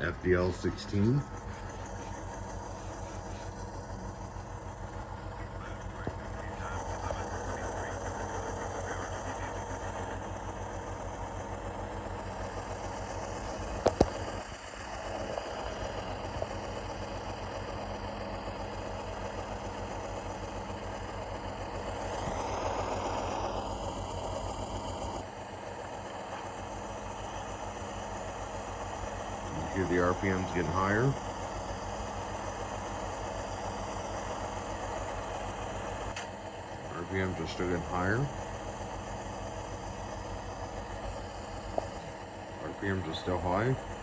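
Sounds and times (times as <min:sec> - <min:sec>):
diesel engine sound through small speaker: 0:00.0 - 0:44.0.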